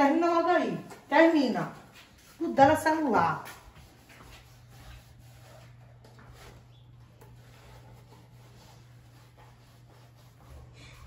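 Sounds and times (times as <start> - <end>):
sponge scrubbing dishes: 0.1 - 11.0.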